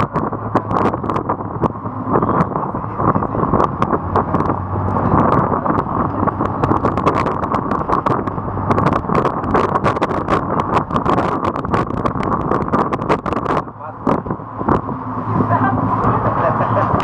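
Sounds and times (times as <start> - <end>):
boat engines droning: 0.0 - 17.0
wind noise on microphone: 0.0 - 17.0.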